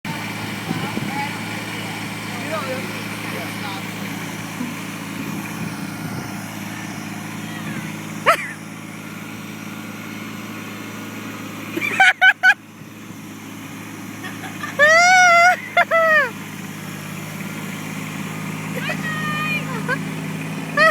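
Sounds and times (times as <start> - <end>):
engine running: 0.0 - 20.9.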